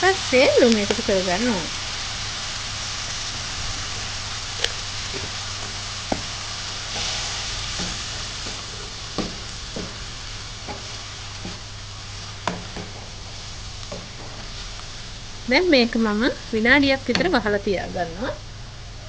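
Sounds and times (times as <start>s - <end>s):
masala sizzling in a wok: 0.0s - 19.0s.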